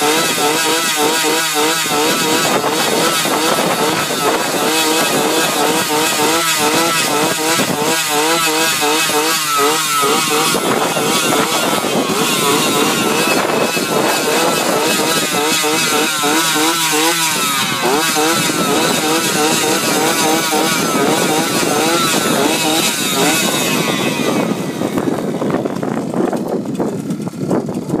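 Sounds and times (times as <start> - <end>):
steady mechanical engine noise: 0.0 - 28.0.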